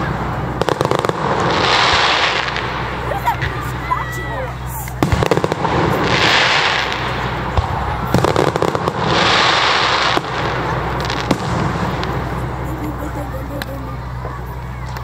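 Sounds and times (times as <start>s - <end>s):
fireworks bangs: 0.0s - 15.0s
fireworks crackling hiss: 0.0s - 15.0s.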